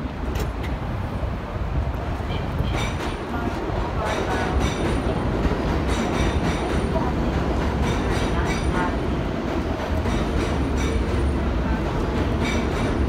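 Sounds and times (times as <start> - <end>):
passengers' voices: 0.0 - 13.0
subway train low rumble: 0.0 - 13.0
train doors sliding open: 0.0 - 13.0.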